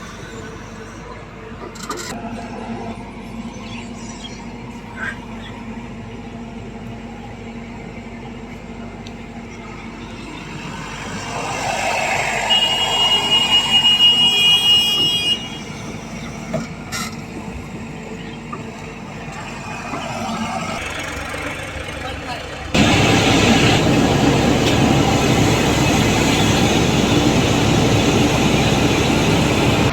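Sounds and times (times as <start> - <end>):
diesel machinery engine running: 5.2 - 29.9.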